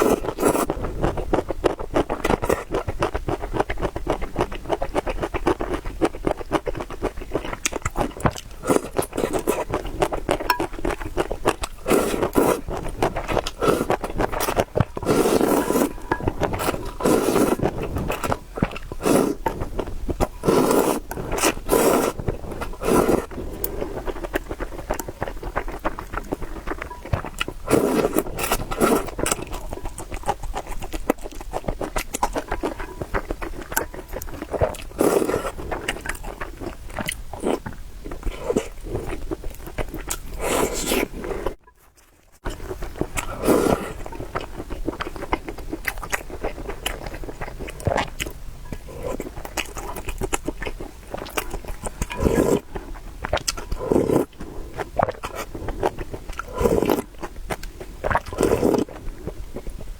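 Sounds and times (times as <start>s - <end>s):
noodles being chewed: 0.0s - 59.9s.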